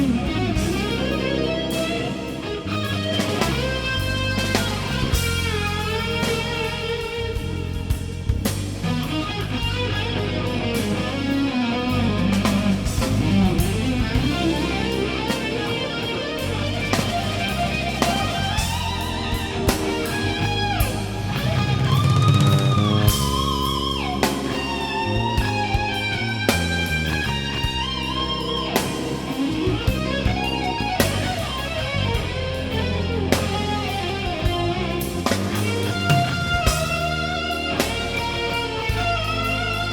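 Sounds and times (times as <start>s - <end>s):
bass: 0.0s - 39.9s
drum kit: 0.0s - 39.9s
electric guitar with bends: 0.0s - 39.9s.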